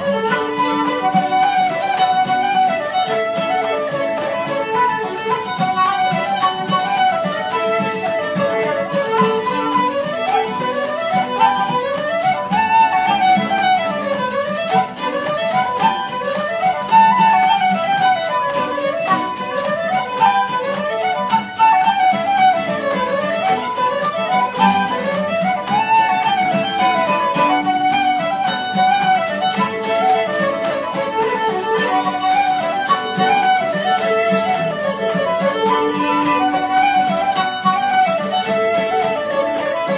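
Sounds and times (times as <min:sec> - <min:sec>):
fiddles playing a fast reel: 0:00.0 - 0:39.9.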